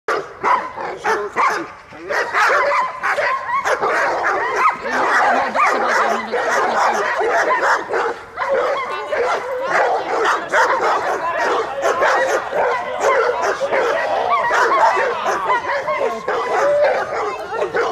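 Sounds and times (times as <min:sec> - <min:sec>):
dogs barking and yelping: 0:00.1 - 0:17.9.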